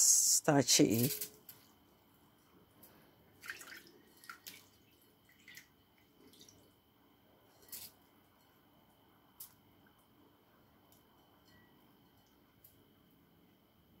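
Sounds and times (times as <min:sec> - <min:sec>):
water drips and soft splats: 0:01.0 - 0:12.8.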